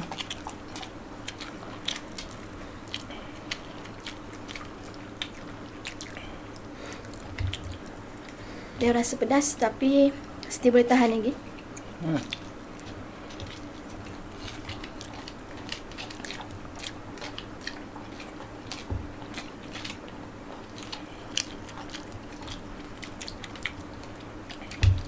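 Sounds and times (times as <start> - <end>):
person chewing noodles: 0.0 - 8.8, 11.4 - 25.0
faint low hum: 0.0 - 25.0.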